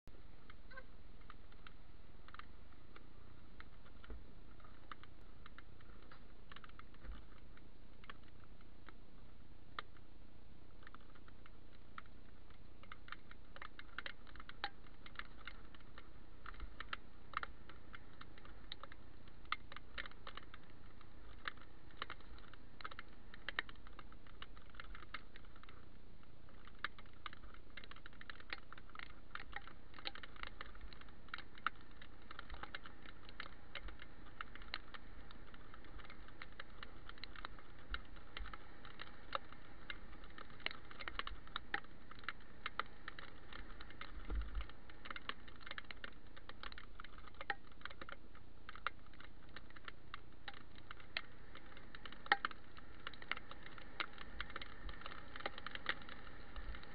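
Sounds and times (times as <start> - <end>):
raindrops tapping on camera: 0.1 - 56.9.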